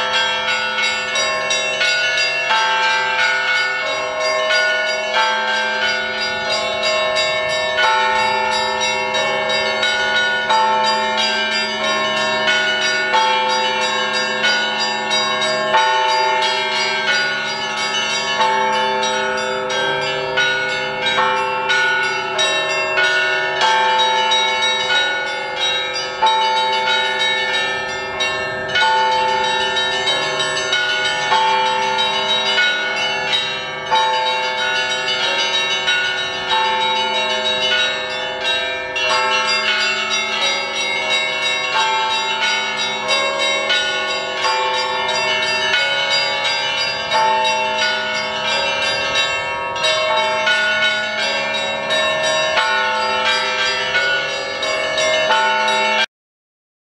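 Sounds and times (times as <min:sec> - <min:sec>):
church bells pealing: 0:00.0 - 0:56.1.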